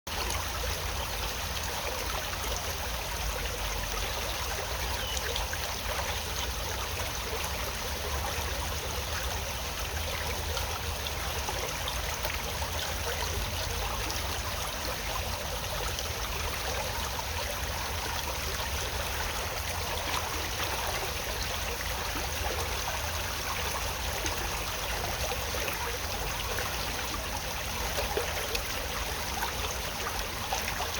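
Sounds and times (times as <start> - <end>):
stream water flowing: 0.1 - 30.9.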